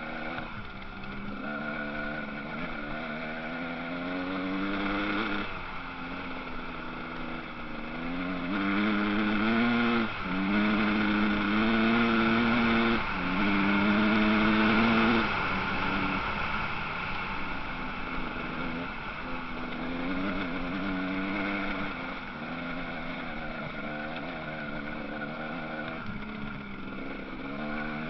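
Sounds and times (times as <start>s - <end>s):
dirt bike engine accelerating: 0.0s - 28.0s
other bike engines droning: 0.0s - 28.0s.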